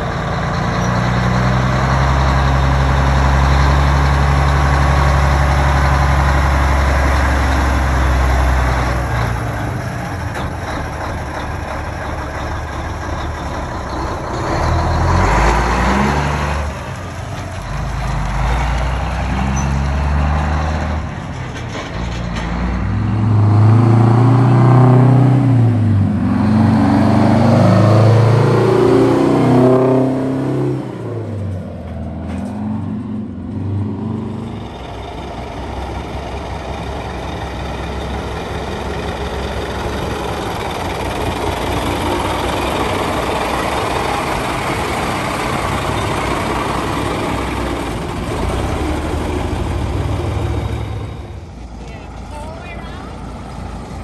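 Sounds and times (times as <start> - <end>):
heavy truck engines running: 0.0 - 54.0
truck accelerating: 0.0 - 54.0.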